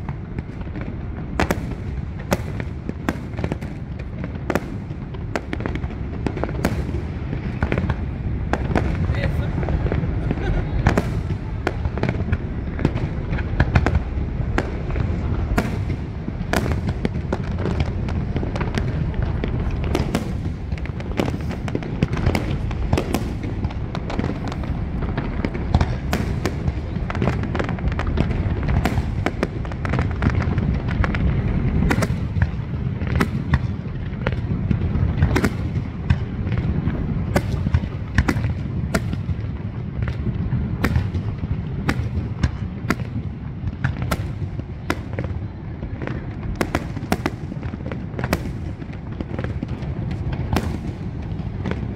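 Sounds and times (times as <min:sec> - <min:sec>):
fireworks bangs and crackles: 0:00.0 - 0:51.9
low rumble: 0:00.0 - 0:51.9.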